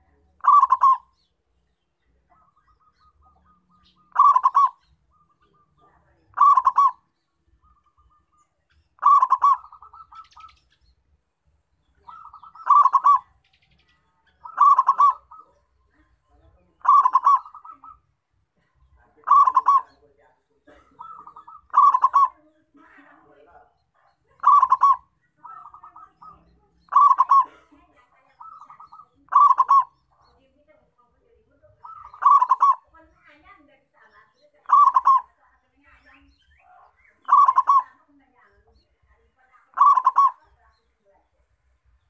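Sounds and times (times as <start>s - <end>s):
dove cooing song: 0.0s - 10.8s, 11.8s - 18.2s, 19.1s - 22.7s, 24.0s - 30.6s, 31.6s - 33.2s, 34.3s - 35.4s, 36.0s - 41.0s.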